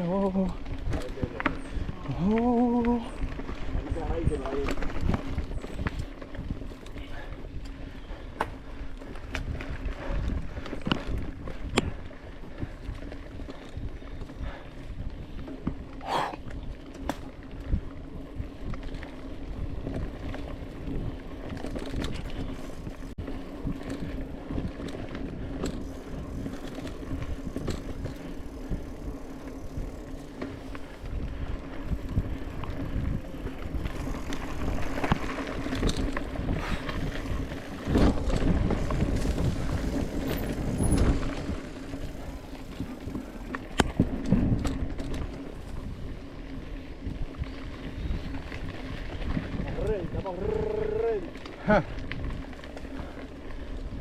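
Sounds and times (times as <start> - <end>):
bike rattling and knocking: 0.0 - 54.0
bike tyres rolling on trail: 0.0 - 54.0.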